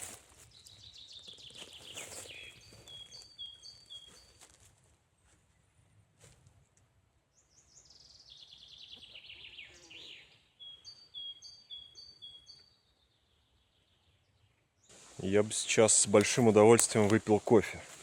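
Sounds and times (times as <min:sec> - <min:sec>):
songbirds singing faintly: 0:00.0 - 0:18.0.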